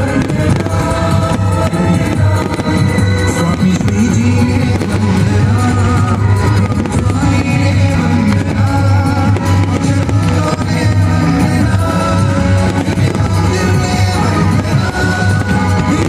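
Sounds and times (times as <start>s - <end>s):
song with guitar and drums: 0.0s - 16.0s.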